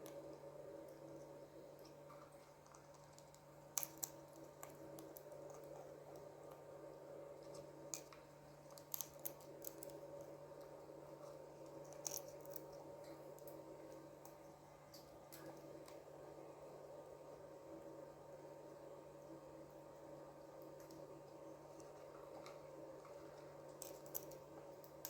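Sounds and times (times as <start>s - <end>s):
faint sharp clicks and cracks: 0.0s - 16.3s, 20.4s - 25.0s
low electrical hum: 0.0s - 25.0s.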